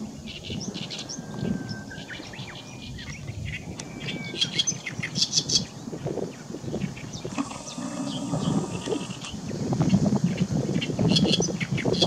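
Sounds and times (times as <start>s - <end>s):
reed warbler singing: 0.0s - 12.0s.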